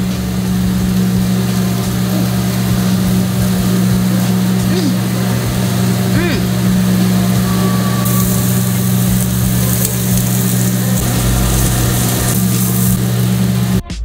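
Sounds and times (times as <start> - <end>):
kitchen equipment drone: 0.0 - 14.0
high hiss: 0.1 - 13.8.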